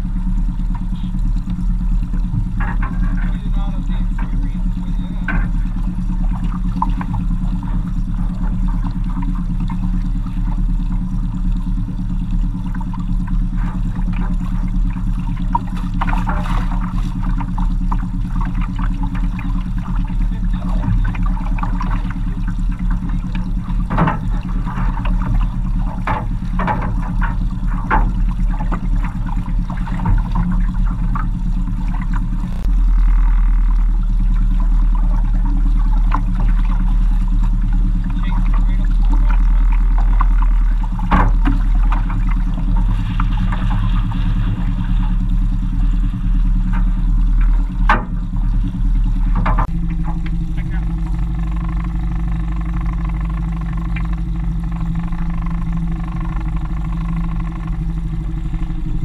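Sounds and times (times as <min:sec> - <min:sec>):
outboard motor running: 0:00.0 - 0:59.0
water splashing against hull: 0:00.0 - 0:59.0.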